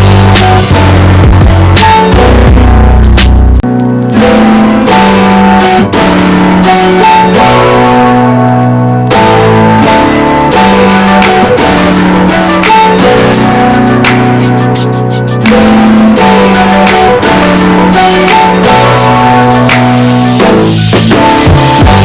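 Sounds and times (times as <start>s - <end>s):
guitar and bass music: 0.0s - 22.0s.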